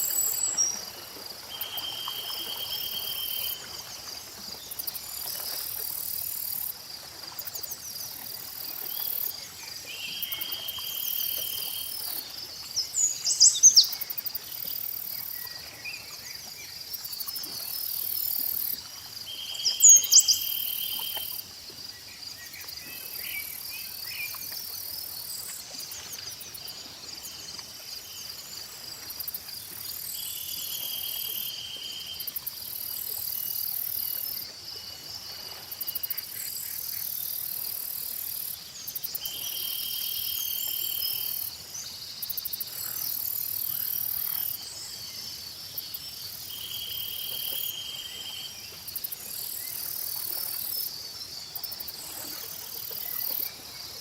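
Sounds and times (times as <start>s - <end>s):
crickets and insects chorus: 0.0s - 54.0s.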